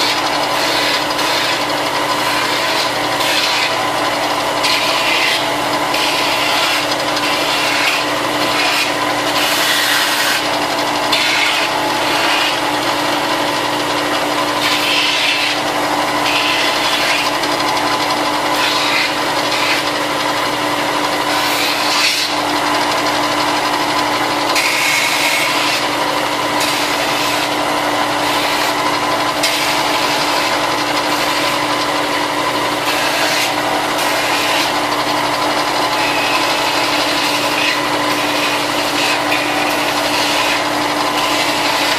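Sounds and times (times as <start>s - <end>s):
sanding plastic: 0.0s - 20.5s, 21.2s - 41.9s.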